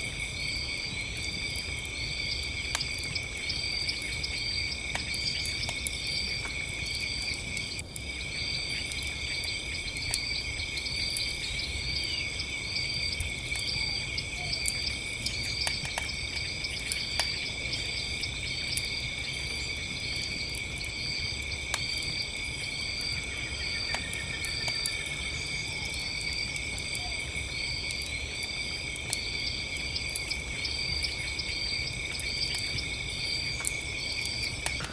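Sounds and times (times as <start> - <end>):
campfire crackling and popping: 0.0 - 34.9
crickets and insects trilling: 0.0 - 34.9
insect chirping: 0.0 - 34.9.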